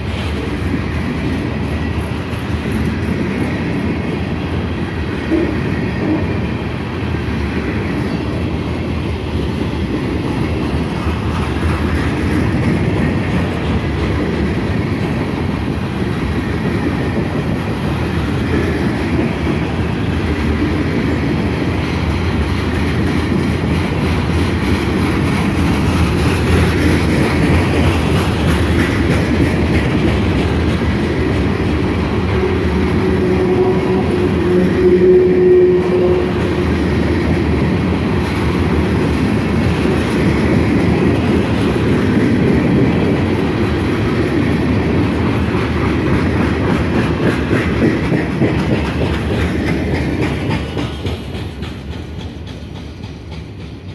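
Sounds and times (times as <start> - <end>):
freight train wheels rumbling on track: 0.0 - 53.9.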